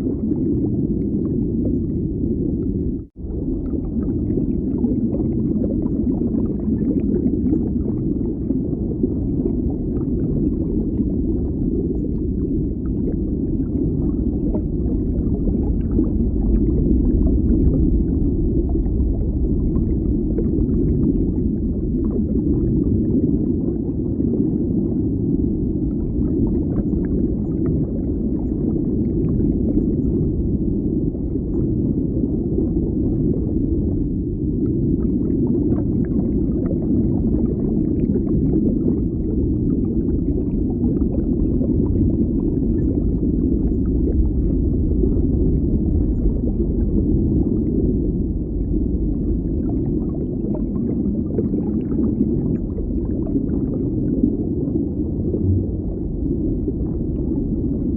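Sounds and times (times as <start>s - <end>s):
underwater low rumble: 0.0s - 57.9s.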